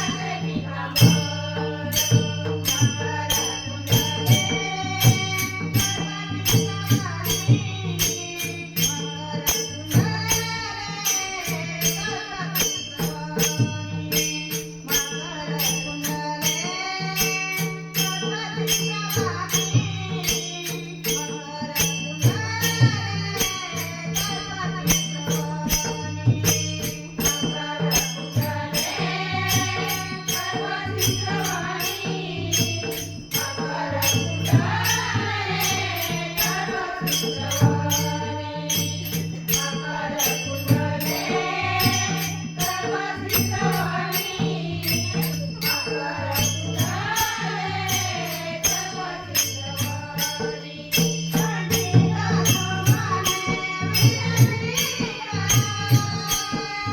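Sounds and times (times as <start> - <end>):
jingling metal percussion: 0.0 - 56.9
woman singing: 0.0 - 56.9.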